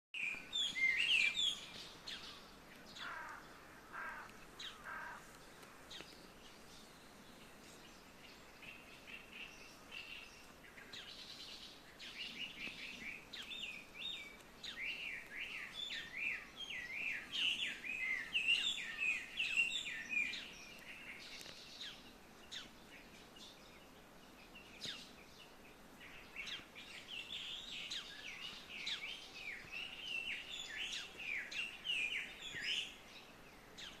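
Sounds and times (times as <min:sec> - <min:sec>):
songbirds chirping and trilling: 0:00.2 - 0:34.0.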